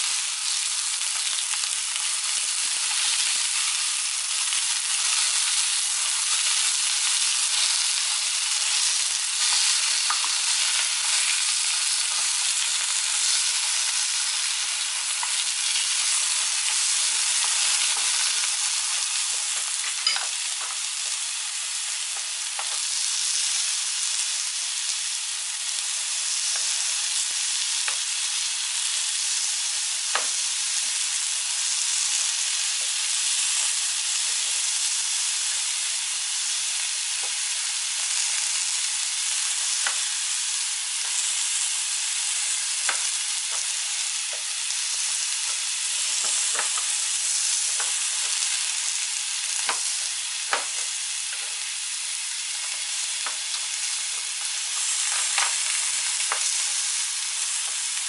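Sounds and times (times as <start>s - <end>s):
vegetables sizzling in oil: 0.0s - 58.0s.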